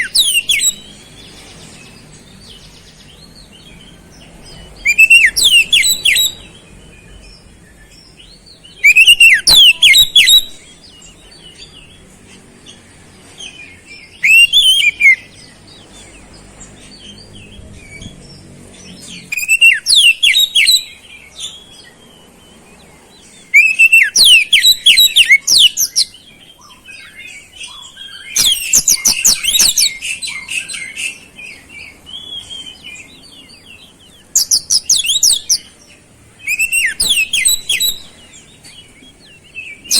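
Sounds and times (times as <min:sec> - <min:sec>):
bird singing whistles and twitters: 0:00.0 - 0:11.7, 0:13.4 - 0:15.6, 0:18.9 - 0:22.2, 0:23.4 - 0:35.8, 0:36.4 - 0:39.9.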